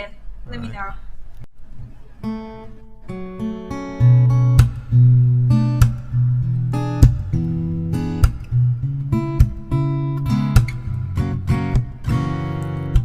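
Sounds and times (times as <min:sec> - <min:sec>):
acoustic guitar strumming: 0:01.9 - 0:13.0.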